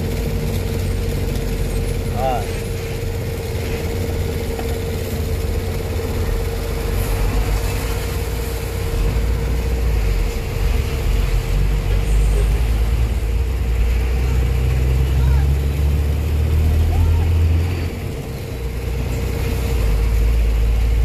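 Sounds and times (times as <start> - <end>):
constant hum: 0.0 - 21.0
diesel engine rumble: 0.0 - 21.0
lorries passing: 0.0 - 21.0.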